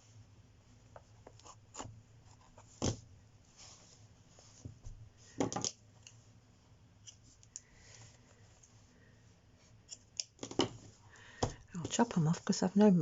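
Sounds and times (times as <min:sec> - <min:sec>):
handling of doll and yarn: 0:00.0 - 0:13.0.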